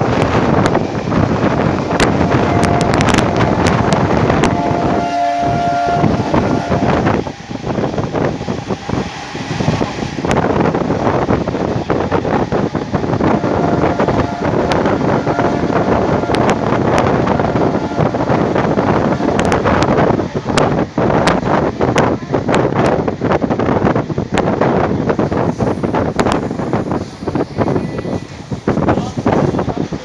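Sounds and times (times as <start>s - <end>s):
train wheels rumbling on track: 0.0s - 30.0s
wind buffeting microphone: 0.0s - 30.0s.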